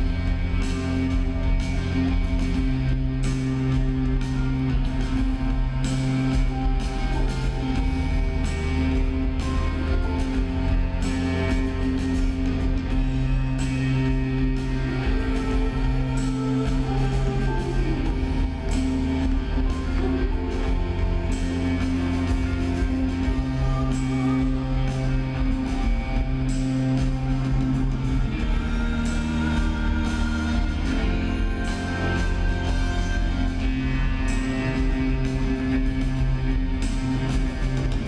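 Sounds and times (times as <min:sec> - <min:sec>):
held bass notes: 0:00.0 - 0:38.0
live rock band playing: 0:00.0 - 0:38.0.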